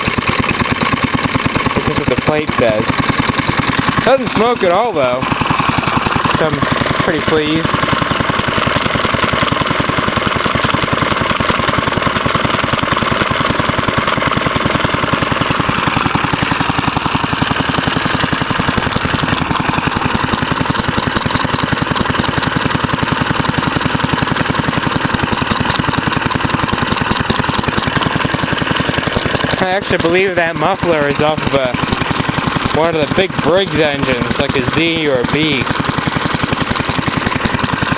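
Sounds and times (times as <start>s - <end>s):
single-cylinder engine running: 0.0s - 37.9s.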